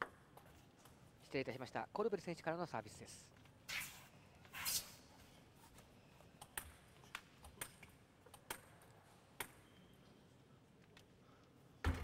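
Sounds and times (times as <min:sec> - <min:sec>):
faint hall ambience: 0:00.0 - 0:12.0.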